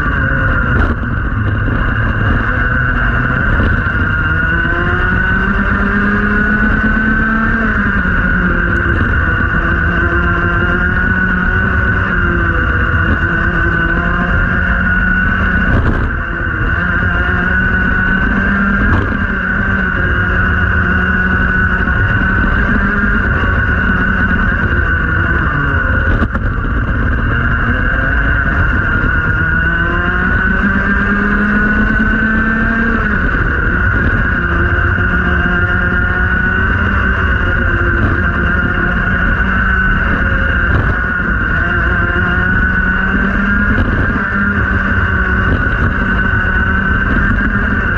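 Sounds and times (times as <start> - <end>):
kart engine revving: 0.0 - 47.9.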